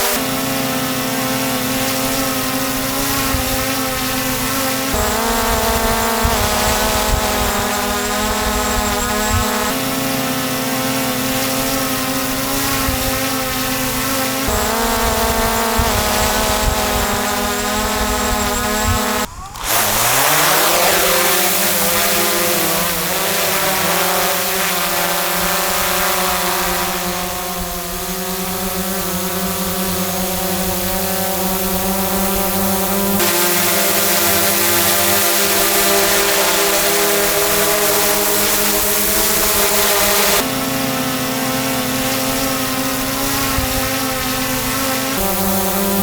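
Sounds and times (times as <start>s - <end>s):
drone propellers whining: 0.0s - 46.0s.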